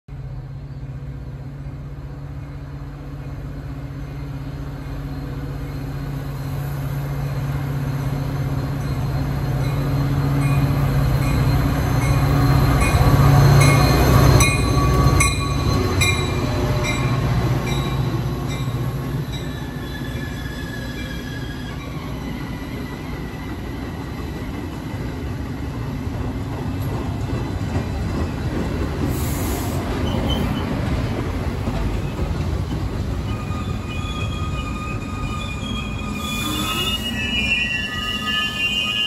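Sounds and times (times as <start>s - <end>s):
diesel locomotive passing: 0.1s - 39.0s
freight train rolling by: 0.1s - 39.0s.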